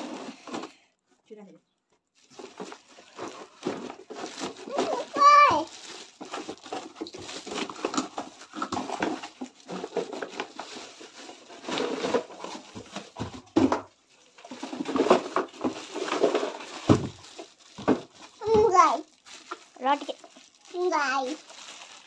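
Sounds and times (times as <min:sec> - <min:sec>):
plastic wrapping rustling: 0:00.0 - 0:00.9, 0:02.0 - 0:22.0.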